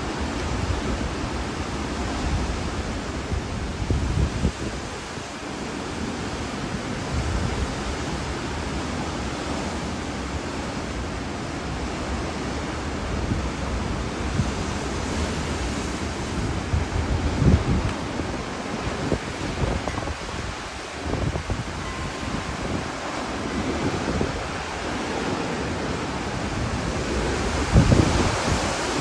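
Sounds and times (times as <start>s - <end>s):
hurricane-force wind roaring: 0.0s - 29.0s
wind gusts buffeting microphone: 0.0s - 29.0s.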